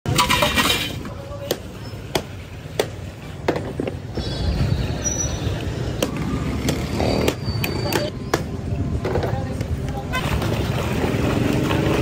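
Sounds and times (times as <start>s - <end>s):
street traffic rumble: 0.1s - 12.0s.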